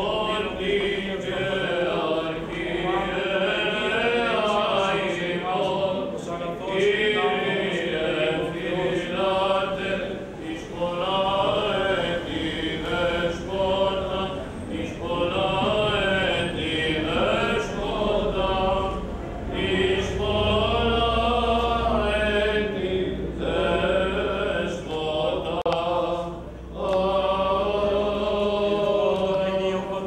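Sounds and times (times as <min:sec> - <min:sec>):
male voices chanting: 0:00.0 - 0:30.0.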